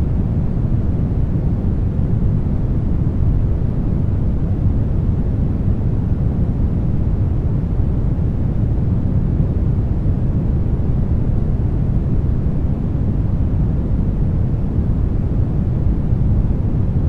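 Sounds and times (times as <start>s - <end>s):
deep steady brown noise hiss: 0.0s - 17.0s.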